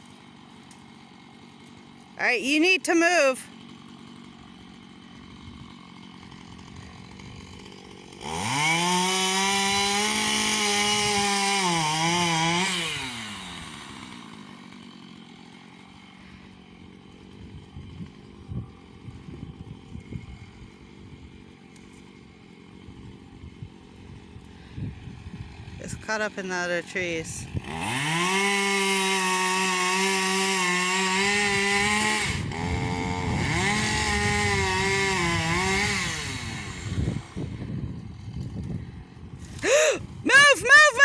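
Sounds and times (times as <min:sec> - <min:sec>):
chainsaw revving: 0:00.0 - 0:41.0.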